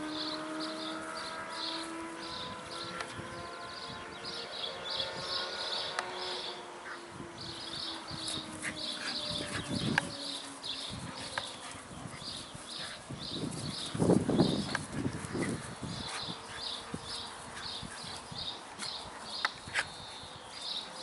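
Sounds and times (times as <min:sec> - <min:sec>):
dogs scuffling on grass: 0:00.0 - 0:03.9, 0:04.5 - 0:21.0.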